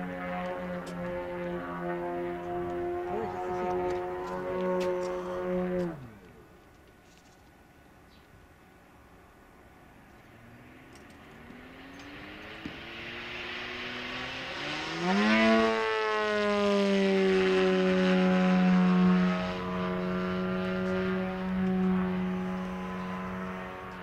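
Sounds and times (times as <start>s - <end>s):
model plane engine in flight: 0.0s - 7.5s, 8.7s - 24.0s.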